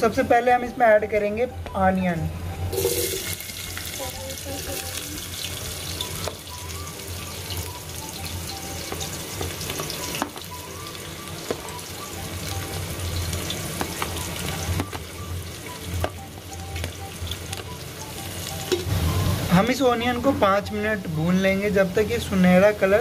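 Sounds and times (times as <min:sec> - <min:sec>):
onions sizzling in hot oil: 0:02.7 - 0:23.0.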